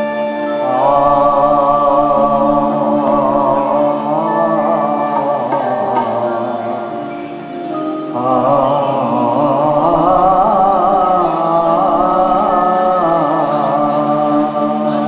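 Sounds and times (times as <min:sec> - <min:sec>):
instrumental accompaniment: 0:00.0 - 0:15.0
man singing into microphone: 0:00.0 - 0:15.0.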